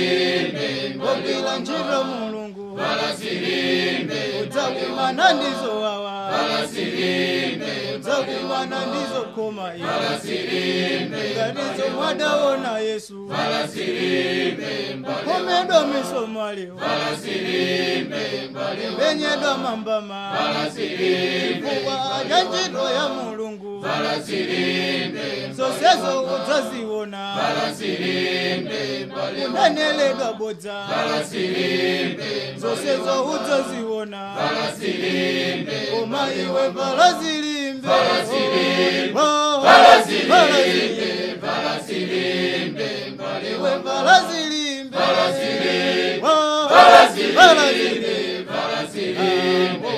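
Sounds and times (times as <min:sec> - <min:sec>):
choir singing a hymn: 0:00.0 - 0:49.9.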